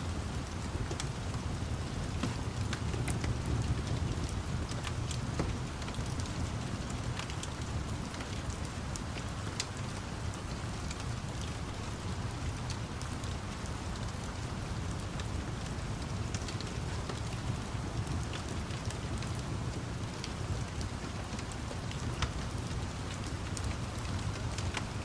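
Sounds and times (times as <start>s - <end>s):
steady rain falling: 0.0s - 25.0s
sharp crackles and ticks: 0.4s - 12.0s, 16.0s - 25.0s.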